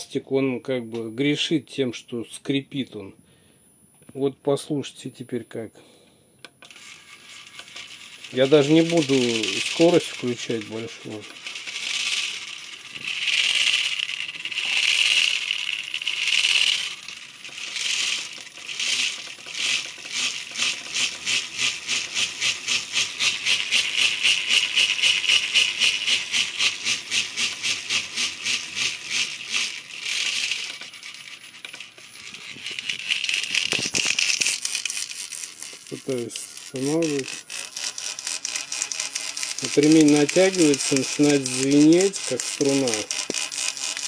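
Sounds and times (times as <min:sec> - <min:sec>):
timing belt rattling hum: 0:06.7 - 0:44.0.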